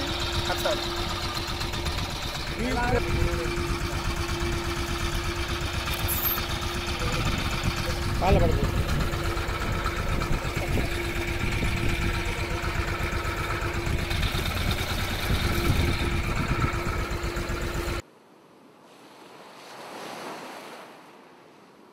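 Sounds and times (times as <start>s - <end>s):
boat engine idling: 0.0s - 18.0s
water noise: 0.0s - 21.9s
wind: 0.0s - 21.9s.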